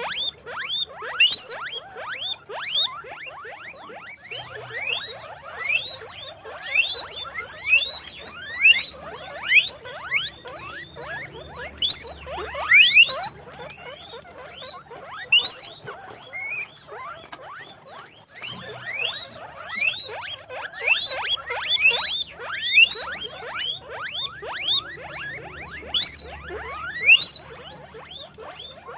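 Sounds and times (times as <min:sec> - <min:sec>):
guinea pigs wheeking: 0:00.0 - 0:28.9.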